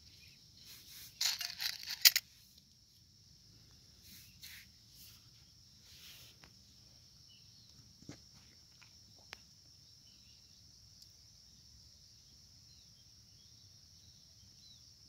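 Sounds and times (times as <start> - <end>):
faint chirps: 0.0 - 15.0
high-pitched insect chorus: 0.0 - 15.0.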